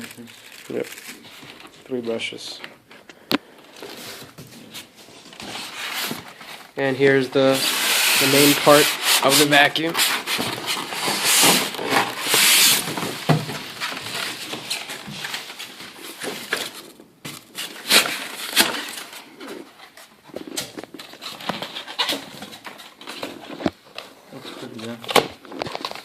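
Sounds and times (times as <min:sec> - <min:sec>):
plastic packaging rustling: 0:00.0 - 0:26.0.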